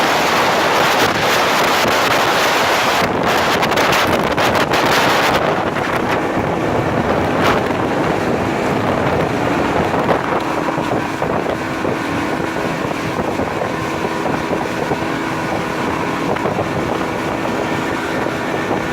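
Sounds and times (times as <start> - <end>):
motorboat engine running: 0.0 - 18.9
wind buffeting microphone: 0.0 - 18.9.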